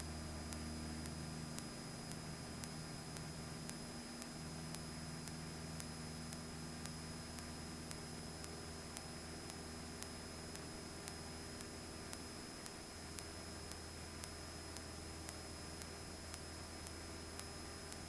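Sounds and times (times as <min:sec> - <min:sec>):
faint aircraft engine drone: 0:00.0 - 0:18.0
faint ticking: 0:00.0 - 0:18.0
steady hiss: 0:00.0 - 0:18.0.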